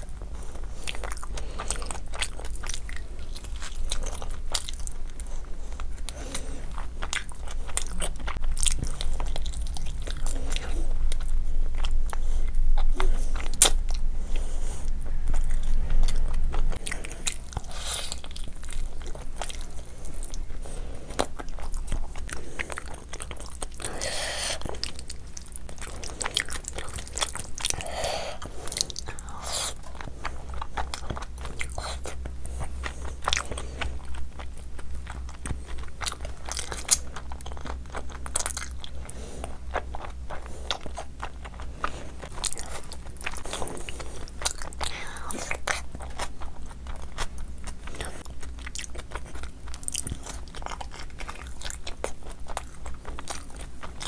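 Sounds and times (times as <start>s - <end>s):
low steady hum: 0.0s - 54.0s
person chewing food: 0.0s - 54.0s.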